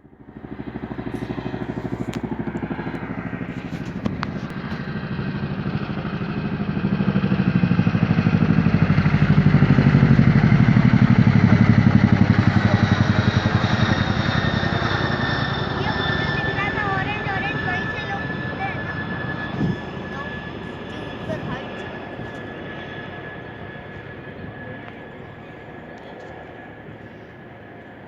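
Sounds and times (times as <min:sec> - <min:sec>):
helicopter engine whine: 0:00.0 - 0:28.0
helicopter rotor beat: 0:00.0 - 0:28.0.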